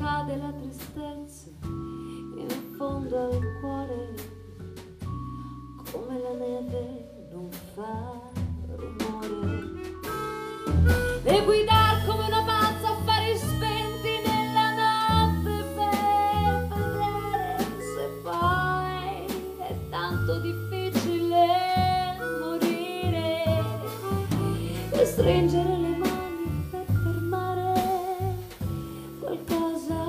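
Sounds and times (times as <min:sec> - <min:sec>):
woman singing: 0:00.0 - 0:04.5, 0:05.8 - 0:09.8, 0:11.1 - 0:30.0
double bass: 0:00.0 - 0:30.0
small jazz band: 0:00.0 - 0:30.0.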